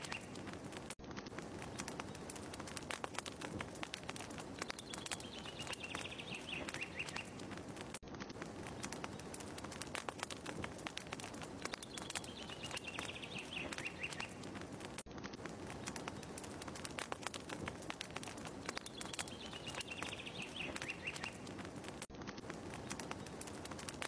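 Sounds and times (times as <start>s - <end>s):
fireplace crackling and popping: 0.0s - 24.0s.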